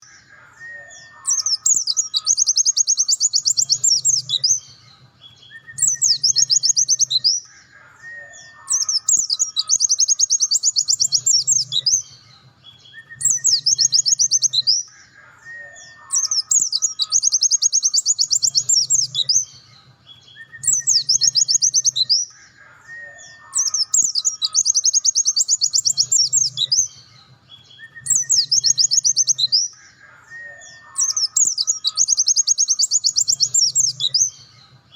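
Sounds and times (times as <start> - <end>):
bird singing trilled song: 0.0 - 34.9.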